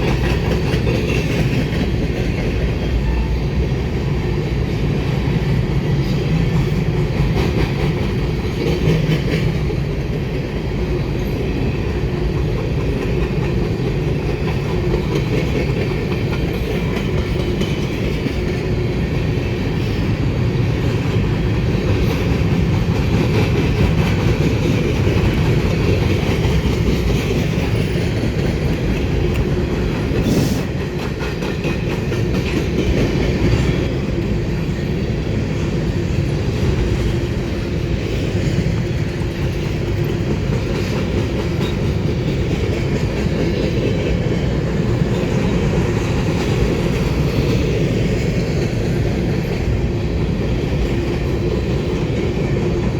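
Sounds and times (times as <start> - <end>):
wheels clacking over rail joints: 0.0 - 3.4, 5.0 - 52.9
train rumbling past: 0.0 - 52.9.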